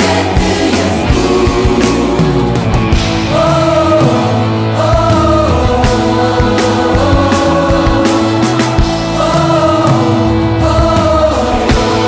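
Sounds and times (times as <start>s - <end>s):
drums keeping a beat: 0.0s - 12.0s
gospel choir singing: 0.0s - 12.0s.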